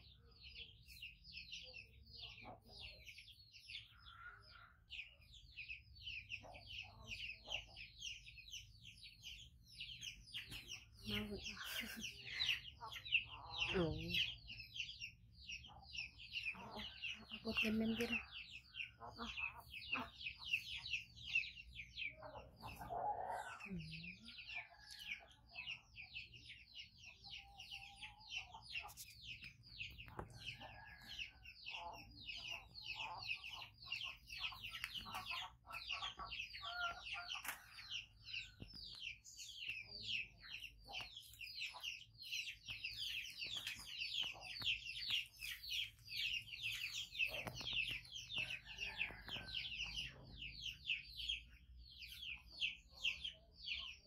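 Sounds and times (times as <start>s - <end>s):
baby chicks peeping: 0.0s - 54.0s.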